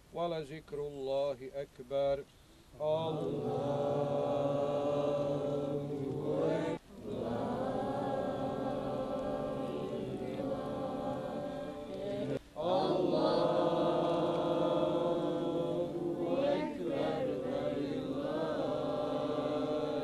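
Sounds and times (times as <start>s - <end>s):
person chanting prayer: 2.8s - 20.0s.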